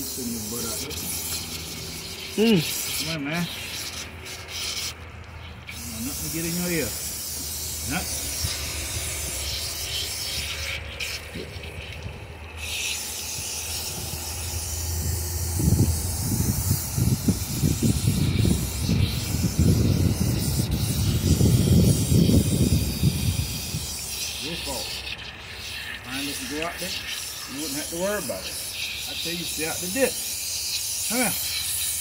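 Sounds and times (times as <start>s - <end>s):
hose spraying water: 0.0s - 32.0s.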